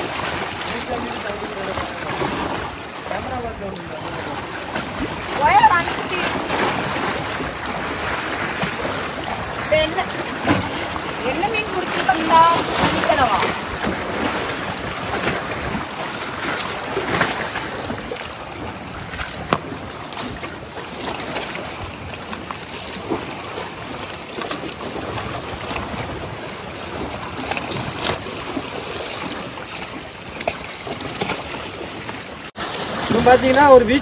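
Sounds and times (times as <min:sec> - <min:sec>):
water lapping against rocks: 0:00.0 - 0:34.0.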